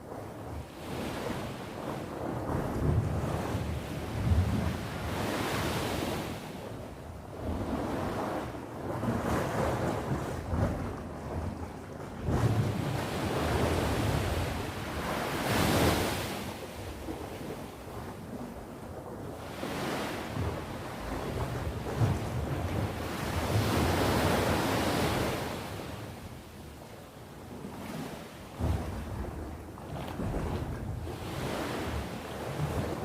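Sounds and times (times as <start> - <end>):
sea waves breaking: 0.0 - 33.0.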